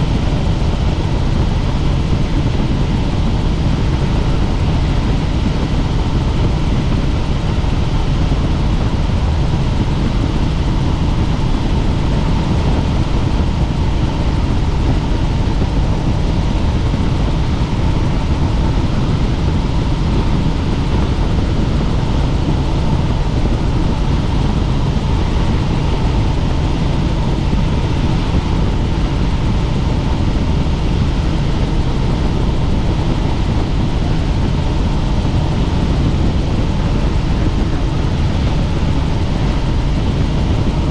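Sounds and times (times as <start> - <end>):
faint steady whine: 0.0 - 40.9
helicopter rotor and engine noise: 0.0 - 40.9.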